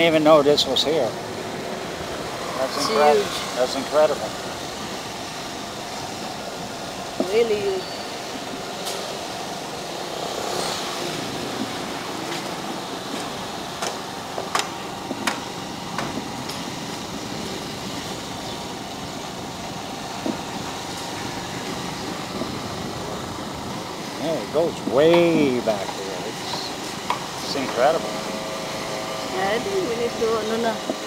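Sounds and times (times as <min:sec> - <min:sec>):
motorcycle engine and wind noise: 0:04.0 - 0:31.0.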